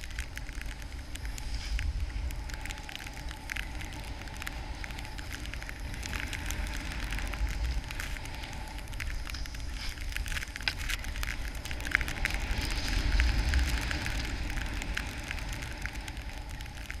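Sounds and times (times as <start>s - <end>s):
snowboard sliding through powder: 0.0s - 17.0s
wind rumble on microphone: 0.0s - 17.0s.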